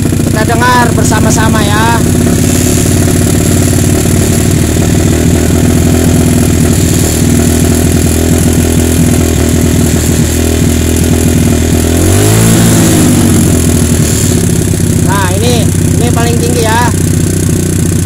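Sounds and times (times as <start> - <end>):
motorcycle engine running steadily: 0.0 - 18.0.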